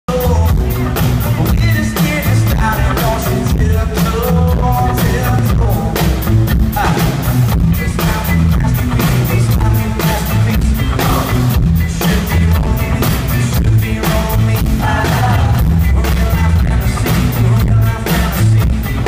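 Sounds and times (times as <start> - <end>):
man singing through pa: 0.1 - 0.7, 1.3 - 19.0
drum kit beat: 0.1 - 19.0
electric guitar: 0.1 - 19.0.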